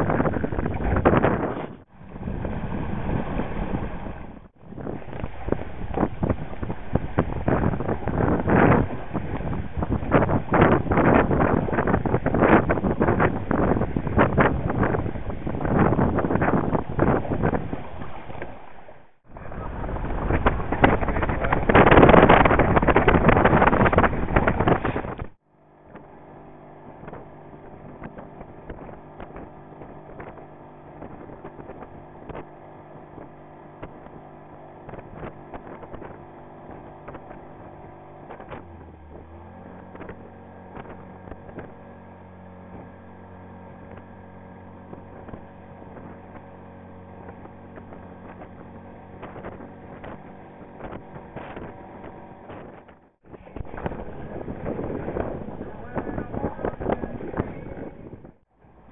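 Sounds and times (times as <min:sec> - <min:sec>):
motorboat engine humming: 0:00.0 - 0:58.9
wind buffeting microphone: 0:00.0 - 0:58.9.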